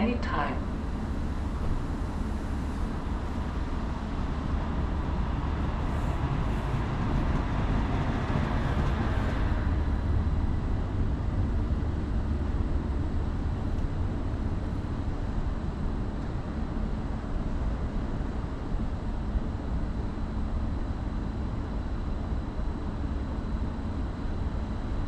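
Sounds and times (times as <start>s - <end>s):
low rumble of trains: 0.0s - 25.0s.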